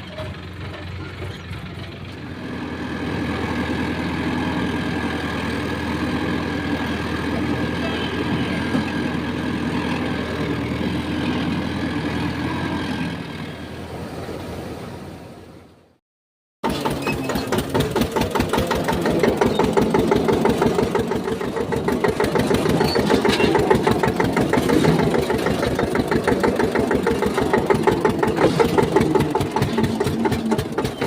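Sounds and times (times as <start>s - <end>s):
diesel tractor engine running: 0.0s - 14.8s, 16.6s - 31.0s.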